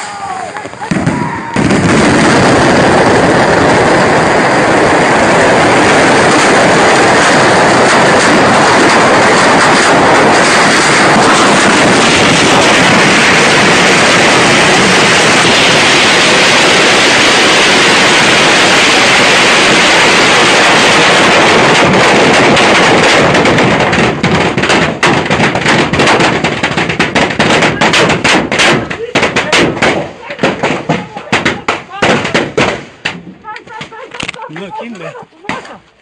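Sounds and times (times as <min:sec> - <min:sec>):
sharp firework bangs: 0:00.0 - 0:34.3
fireworks exploding and crackling: 0:00.0 - 0:36.0.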